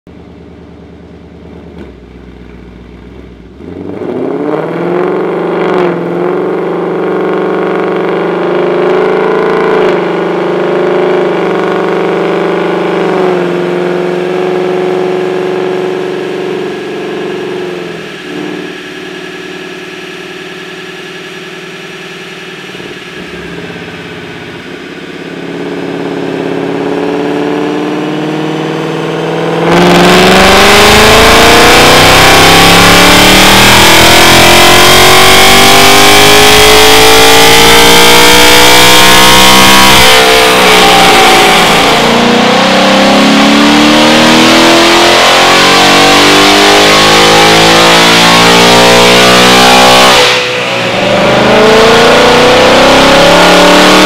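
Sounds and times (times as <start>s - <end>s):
car engine idling and revving: 0.1s - 54.0s.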